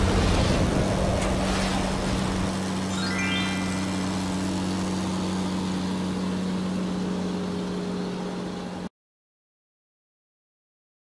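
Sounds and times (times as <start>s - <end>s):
engine drone with hiss: 0.0s - 8.9s.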